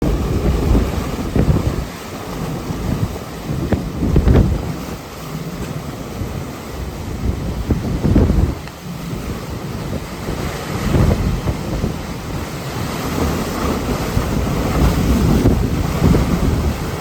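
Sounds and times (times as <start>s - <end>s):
hurricane winds gusting: 0.0s - 17.0s
wind buffeting microphone: 0.0s - 17.0s.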